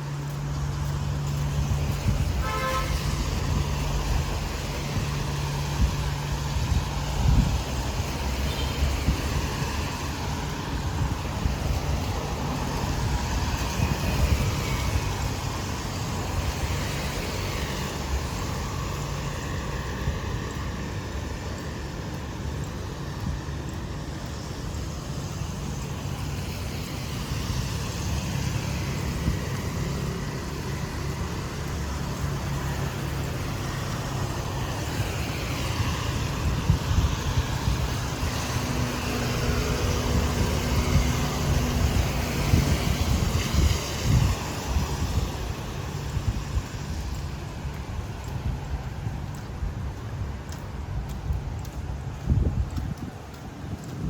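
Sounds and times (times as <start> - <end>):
motorbikes and cars passing: 0.0 - 54.0
wind rumbling on microphone: 0.0 - 54.0.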